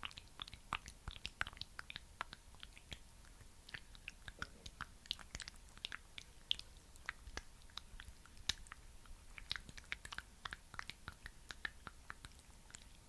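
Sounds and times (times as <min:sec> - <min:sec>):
sticky wet clicks of skin cream: 0:00.0 - 0:13.0.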